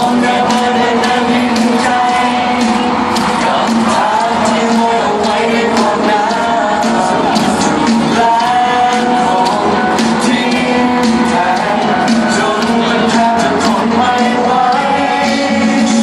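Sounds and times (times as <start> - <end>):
live pop band: 0.0 - 16.0
person singing: 0.0 - 16.0.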